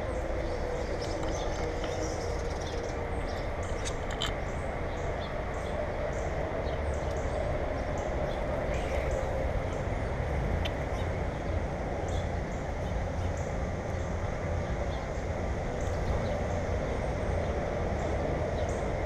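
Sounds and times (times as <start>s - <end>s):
steady rumbling noise: 0.0s - 19.0s.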